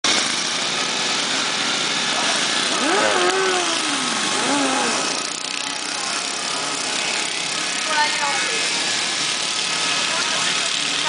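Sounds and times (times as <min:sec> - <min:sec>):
small engines droning: 0:00.1 - 0:11.0.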